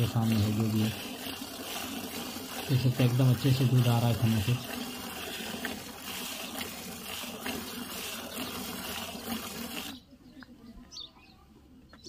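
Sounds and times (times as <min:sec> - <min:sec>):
milk squirting into metal pot: 0:00.0 - 0:10.0.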